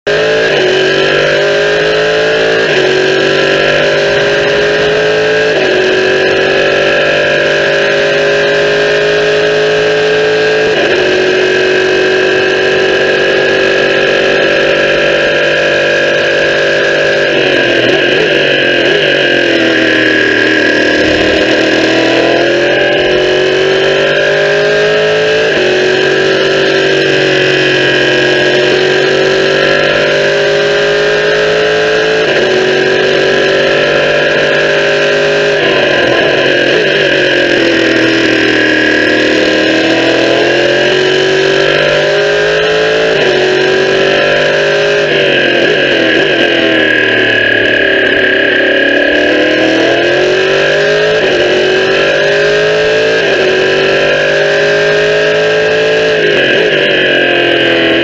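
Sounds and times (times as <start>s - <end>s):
race car engine at full throttle: 0.0s - 58.0s
wind and tyre noise: 0.1s - 58.0s.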